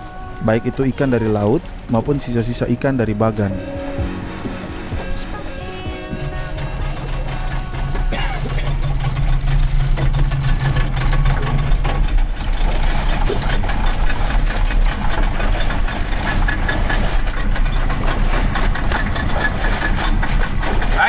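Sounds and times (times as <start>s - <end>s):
speedboat engine humming: 0.0s - 21.0s
rough rushing noise: 1.4s - 21.0s.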